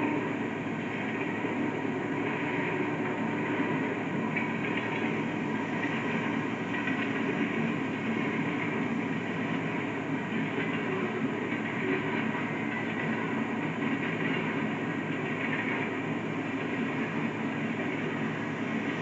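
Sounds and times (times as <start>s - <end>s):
steel wheels running on rails: 0.0s - 19.0s.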